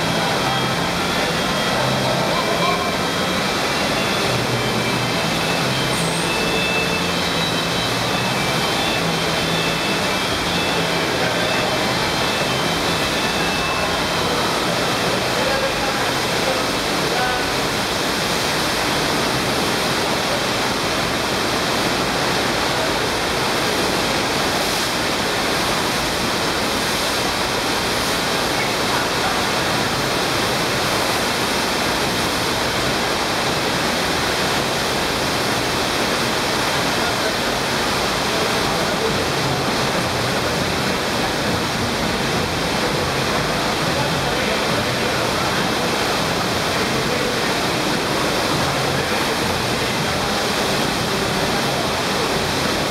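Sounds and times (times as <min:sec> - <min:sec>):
rush of pouring water: 0:00.0 - 0:52.9.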